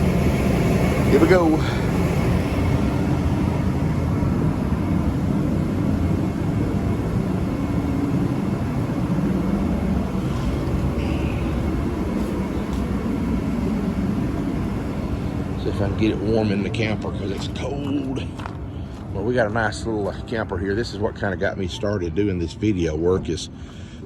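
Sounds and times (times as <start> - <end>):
forced-air heater roaring: 0.0 - 24.0.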